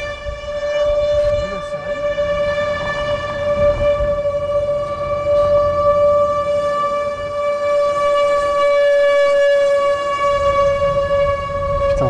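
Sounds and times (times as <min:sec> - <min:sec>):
warning siren wailing: 0:00.0 - 0:12.0.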